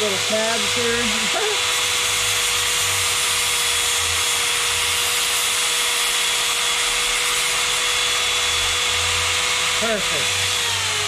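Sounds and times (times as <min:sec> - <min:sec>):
power tool grinding with whine: 0:00.0 - 0:11.0.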